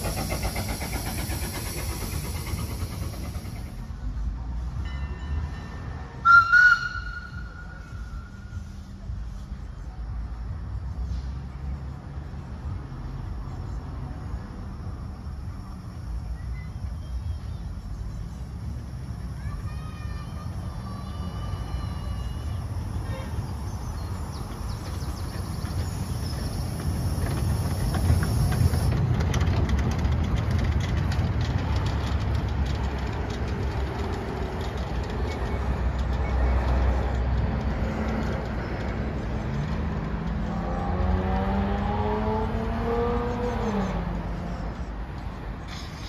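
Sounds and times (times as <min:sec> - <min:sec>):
steam tram rumbling on rails: 0:00.0 - 0:46.0.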